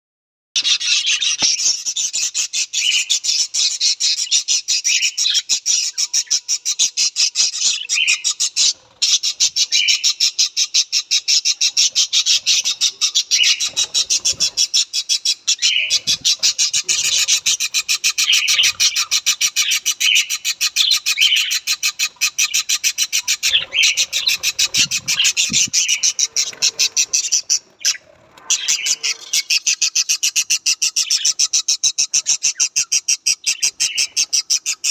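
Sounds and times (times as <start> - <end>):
budgerigars chattering: 0.6 - 34.9.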